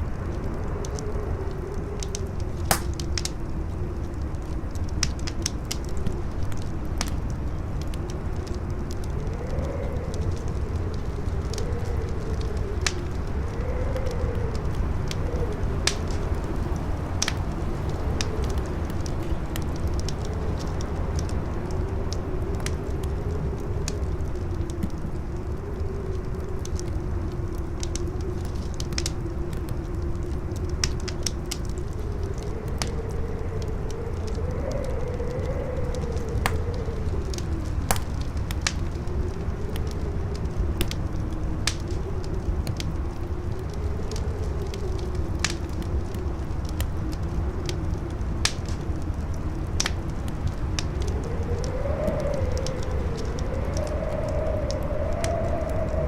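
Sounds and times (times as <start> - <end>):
campfire crackling and popping: 0.0 - 56.0
howling wind: 0.0 - 56.0.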